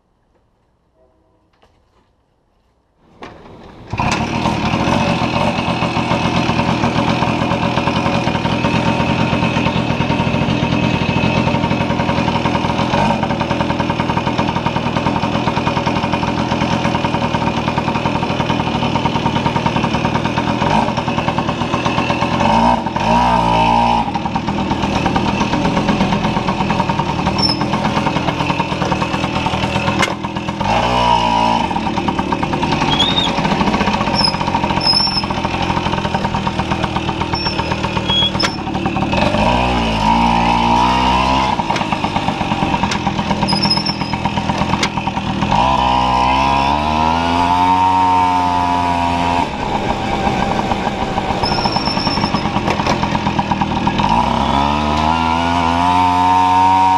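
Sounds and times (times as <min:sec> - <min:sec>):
moped two-stroke engine running: 0:03.4 - 0:56.9.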